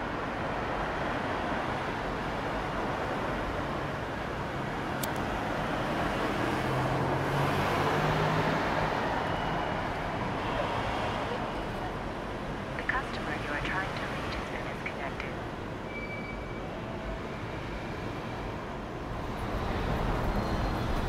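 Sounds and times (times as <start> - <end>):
passing cars: 0.0 - 16.0, 16.6 - 21.0.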